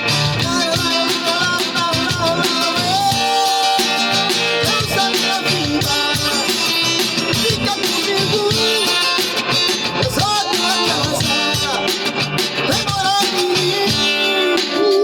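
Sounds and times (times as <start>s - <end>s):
guitar-led music with steady beat: 0.0s - 15.0s.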